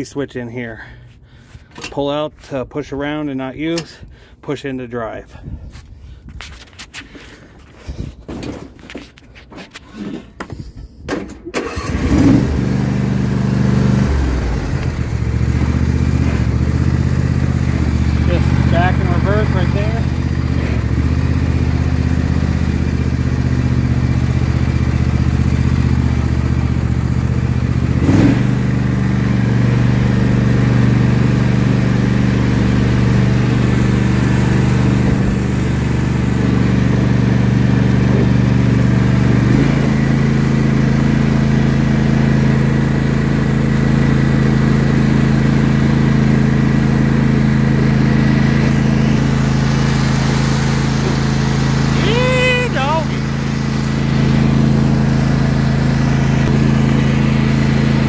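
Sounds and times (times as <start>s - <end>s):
lawn tractor engine running: 9.8s - 58.0s.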